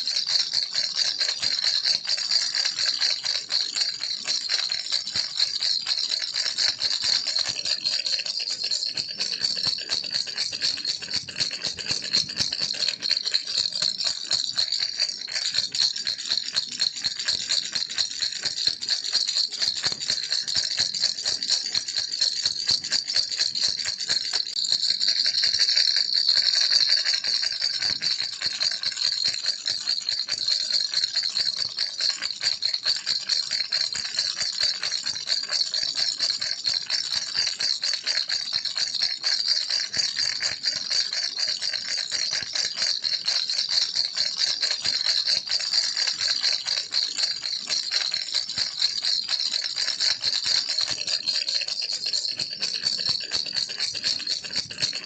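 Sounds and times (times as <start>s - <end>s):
toy rattle shaken: 0.0s - 55.0s.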